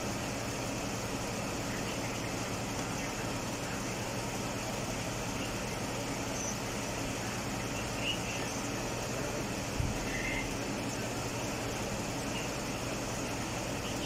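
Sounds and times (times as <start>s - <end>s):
air-conditioning running: 0.0s - 14.0s
car engine idling: 0.0s - 14.0s.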